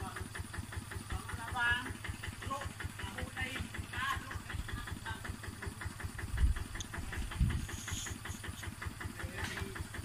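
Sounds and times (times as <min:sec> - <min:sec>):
diesel engine chugging: 0:00.0 - 0:10.0.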